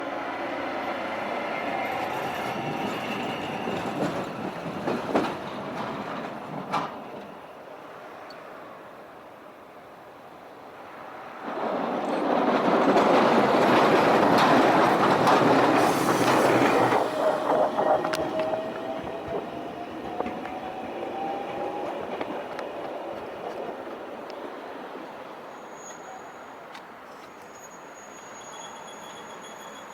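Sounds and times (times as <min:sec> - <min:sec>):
tram running on rails: 0:00.0 - 0:29.9.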